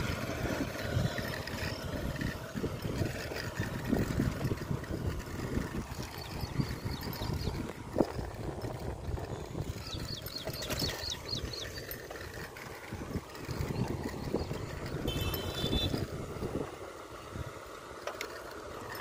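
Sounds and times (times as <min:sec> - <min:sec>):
wind buffeting microphone: 0:00.0 - 0:17.8
bicycle rumble on paved path: 0:00.0 - 0:19.0.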